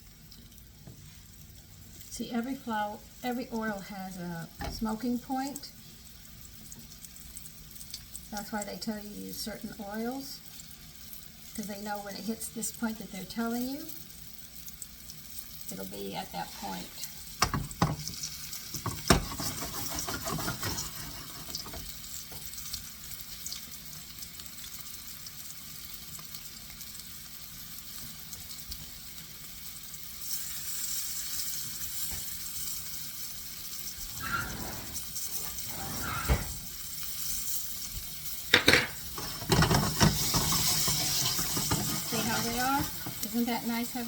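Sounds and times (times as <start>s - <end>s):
chicken sizzling in hot oil: 0.0s - 34.4s, 35.0s - 44.0s.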